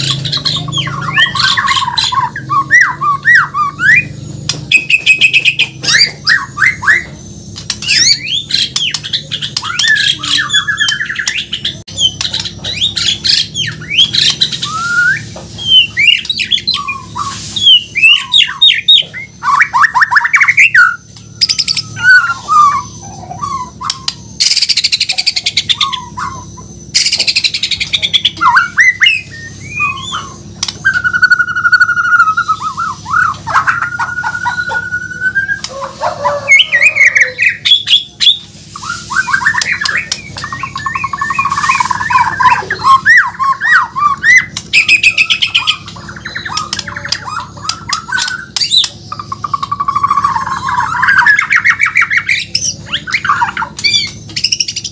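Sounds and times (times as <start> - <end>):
songbird singing varied song: 0.0 - 54.9.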